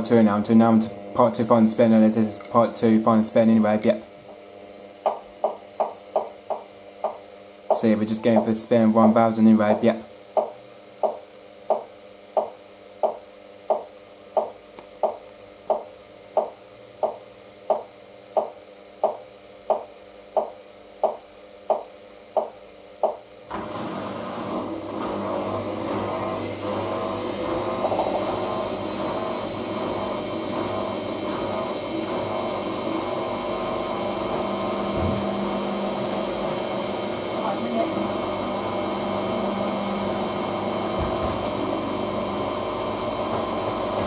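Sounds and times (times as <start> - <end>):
washing machine spin whirring: 0.0 - 44.0.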